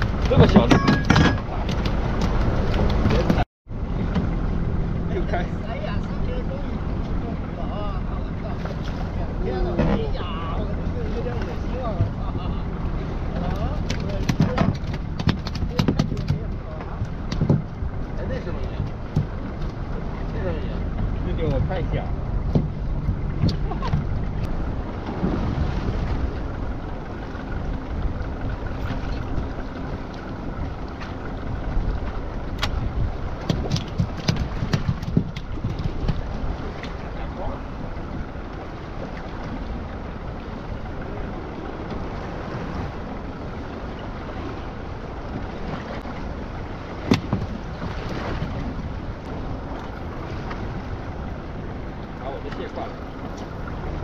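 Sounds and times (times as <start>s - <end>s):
sea and hull noise: 0.0s - 54.0s
wind buffeting microphone: 0.0s - 54.0s.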